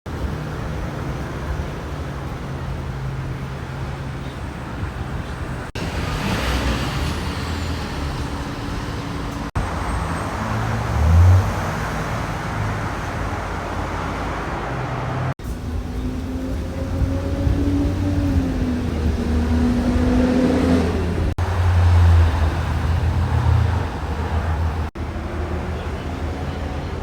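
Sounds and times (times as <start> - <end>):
engine drone and tyre noise: 0.1 - 27.0
trucks passing: 0.1 - 27.0.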